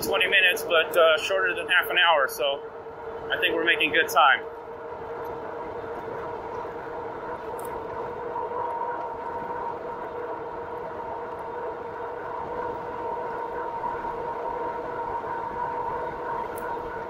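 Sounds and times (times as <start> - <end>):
electric bike whine: 0.0 - 17.0
wind rumble on microphone: 0.0 - 17.0.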